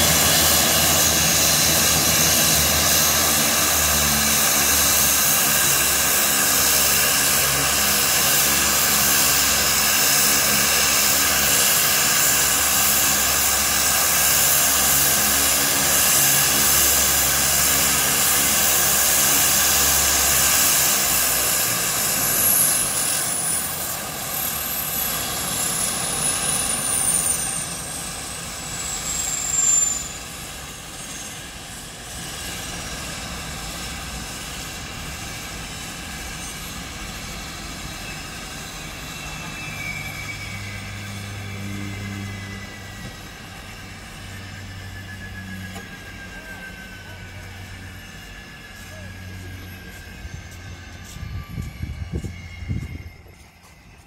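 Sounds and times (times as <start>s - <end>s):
turbine whine spooling down: 0.0s - 54.0s
turboprop engines idling: 0.0s - 54.0s.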